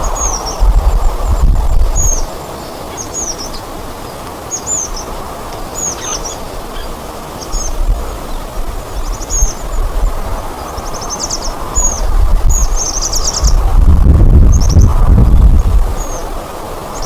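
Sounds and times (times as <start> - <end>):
small birds chirping: 0.0 - 13.7, 14.4 - 15.0, 15.6 - 17.0.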